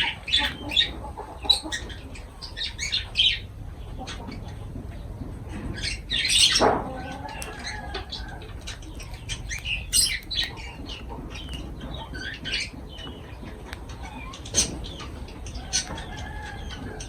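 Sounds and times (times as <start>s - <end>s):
lovebirds chirping: 0.0s - 17.0s.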